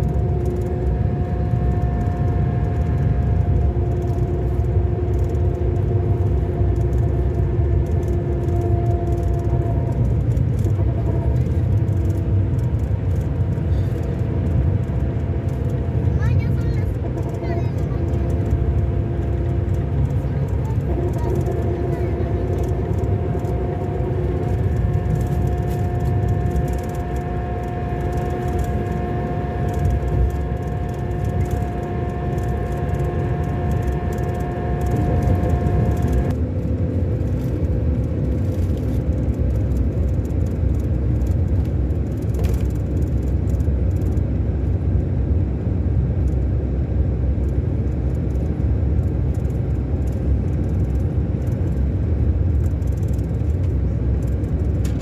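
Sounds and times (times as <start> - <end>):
coach engine rumbling: 0.0 - 55.0
whine of steady tones: 0.0 - 55.0.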